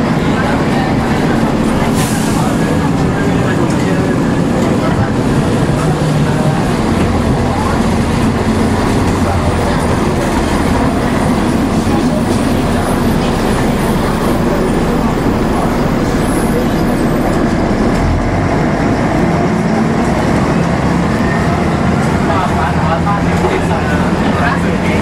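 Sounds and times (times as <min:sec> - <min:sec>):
bus engine and road rumble: 0:00.0 - 0:25.0
passengers chatting: 0:00.0 - 0:25.0.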